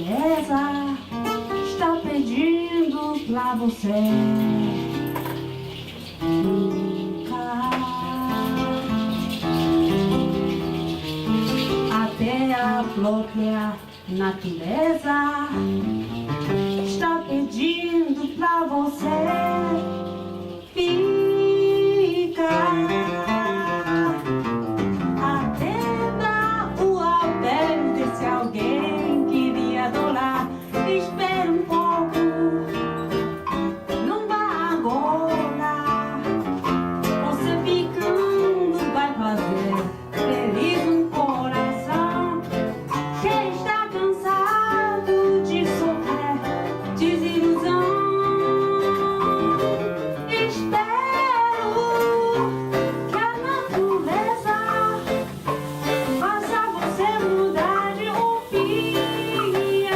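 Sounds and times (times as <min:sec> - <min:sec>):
plucked strings: 0:00.0 - 0:59.9
samba percussion: 0:00.0 - 0:59.9.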